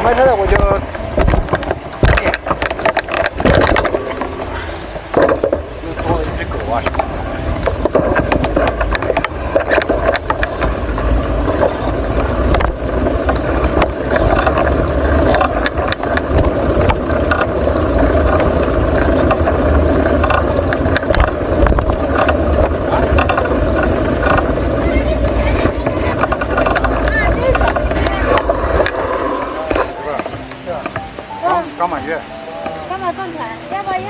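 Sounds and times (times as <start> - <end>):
small rattles and scrapes: 0.0 - 31.3
road riding rumble: 0.0 - 34.0
wind buffeting microphone: 0.0 - 34.0.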